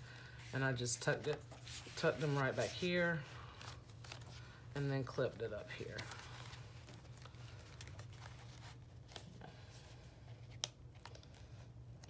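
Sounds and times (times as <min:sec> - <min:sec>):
paper pages rustling: 0:01.2 - 0:11.5.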